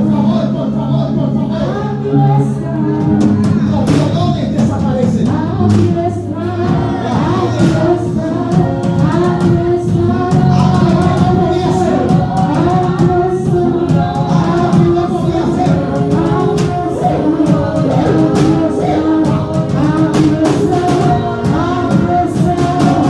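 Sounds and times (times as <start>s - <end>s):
voices singing: 0.0s - 23.0s
worship band playing: 0.0s - 23.0s.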